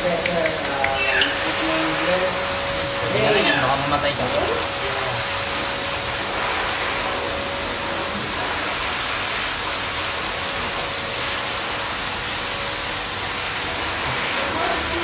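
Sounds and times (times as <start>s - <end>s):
water running from bath tap: 0.0s - 15.0s.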